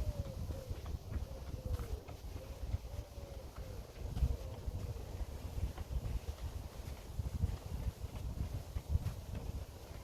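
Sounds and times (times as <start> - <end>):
footsteps on woodland path: 0.0 - 10.0
wind rumbling on microphone: 0.0 - 10.0.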